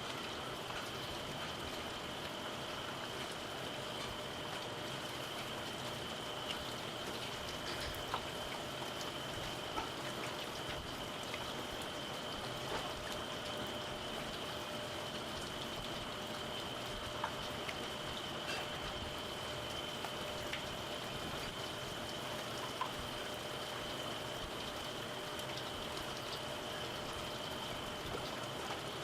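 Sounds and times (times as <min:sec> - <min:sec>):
eel sizzling on a grill: 0:00.0 - 0:29.0.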